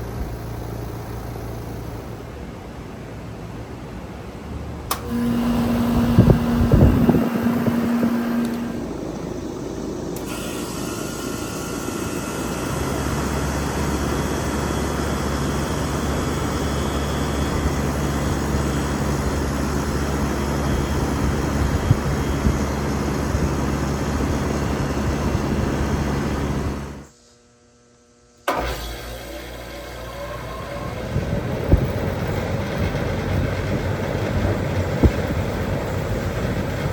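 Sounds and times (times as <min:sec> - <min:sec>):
compressor low hum: 0:00.0 - 0:36.9
fan rushing: 0:00.0 - 0:36.9.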